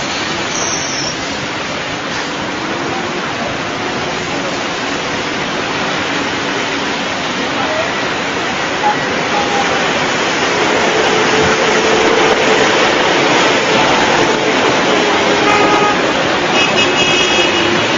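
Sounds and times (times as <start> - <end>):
heavy rain rushing: 0.0 - 17.9.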